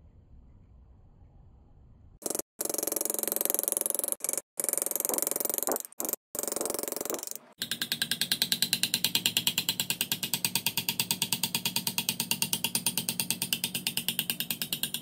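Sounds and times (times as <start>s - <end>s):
hammer tapping chisel on metal: 2.2s - 15.0s.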